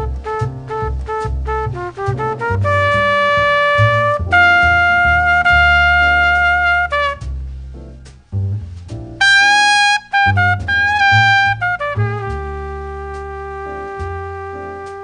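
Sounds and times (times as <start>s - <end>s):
brass lead playing: 0.0s - 7.4s, 9.2s - 15.0s
bass line: 0.0s - 15.0s.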